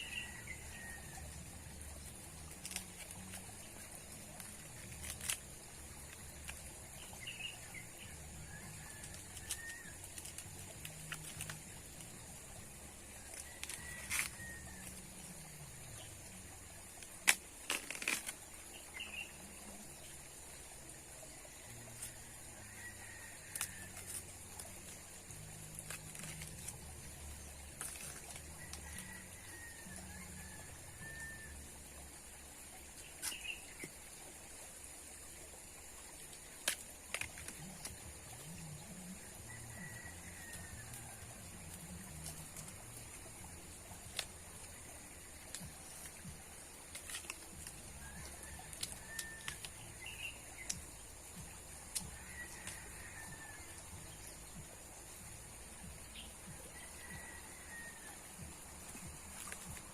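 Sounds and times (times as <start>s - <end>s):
steady outdoor hiss: 0.0s - 59.9s.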